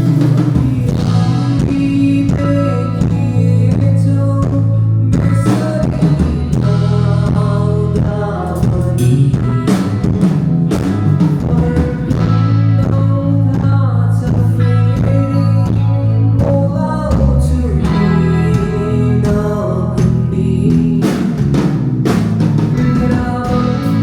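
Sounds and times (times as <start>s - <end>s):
person singing: 0.0s - 10.0s, 11.2s - 21.7s, 22.7s - 24.0s
bass guitar: 0.0s - 24.0s
drum kit: 0.0s - 24.0s
electric guitar: 0.0s - 24.0s.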